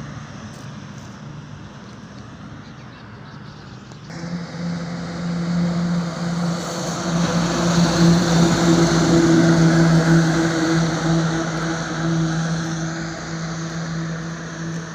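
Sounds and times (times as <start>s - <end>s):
road noise: 0.0s - 14.9s
truck engine running: 0.0s - 14.9s.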